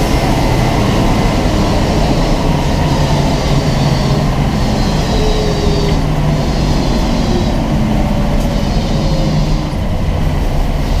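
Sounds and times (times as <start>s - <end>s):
car engine rough rumble: 0.0s - 11.0s.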